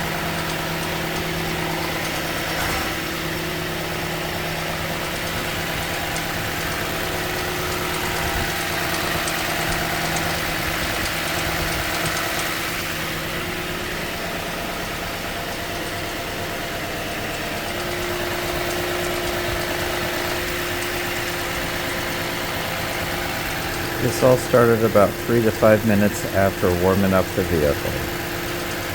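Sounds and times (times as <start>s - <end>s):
car engine idling: 0.0s - 28.9s
engine ticking: 0.0s - 28.9s.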